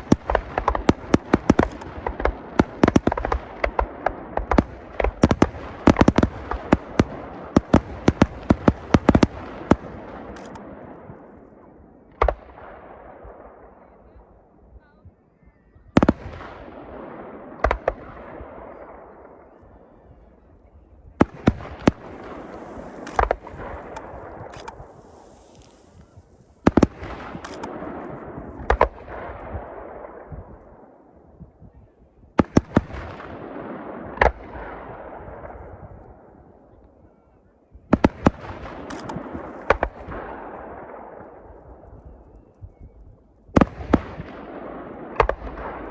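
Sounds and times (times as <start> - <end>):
fireworks bursting with echo: 0.0 - 14.5, 16.0 - 31.7, 32.4 - 36.7, 37.9 - 45.9.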